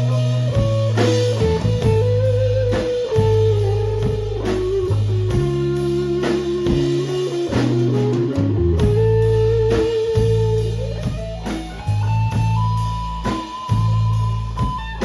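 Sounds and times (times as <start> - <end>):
bass guitar: 0.0 - 15.0
drum beat: 0.0 - 15.0
electric guitar lead notes: 0.0 - 15.0.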